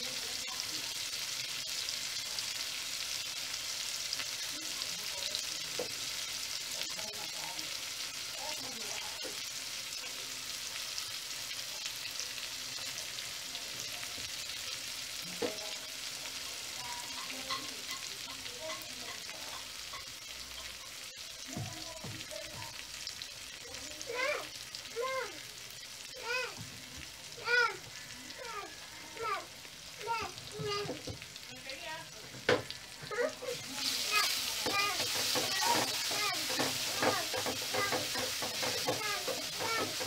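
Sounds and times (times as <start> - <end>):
vegetables sizzling in a metal pot: 0.0 - 40.0.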